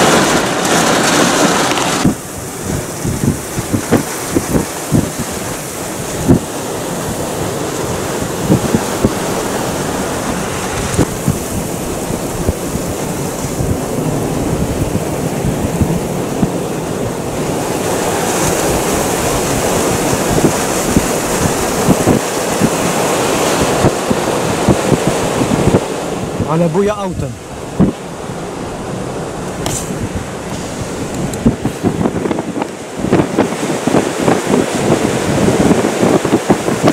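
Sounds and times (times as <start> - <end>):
wind and rain roar: 0.0 - 36.9.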